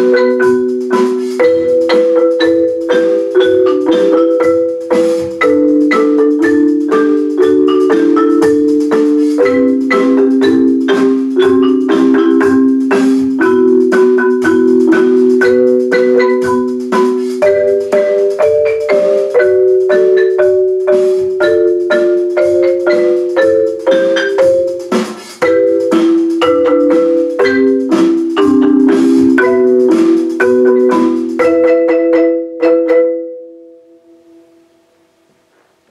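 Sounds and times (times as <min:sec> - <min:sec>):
marimba ensemble playing: 0:00.0 - 0:34.7.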